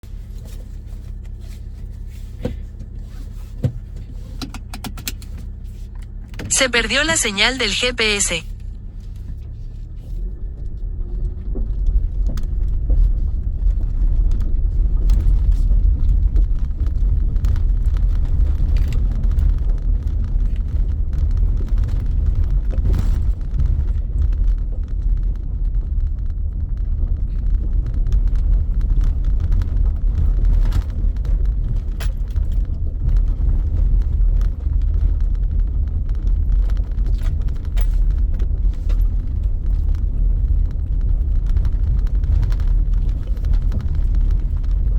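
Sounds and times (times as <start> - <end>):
low road rumble inside vehicle: 0.0 - 44.9.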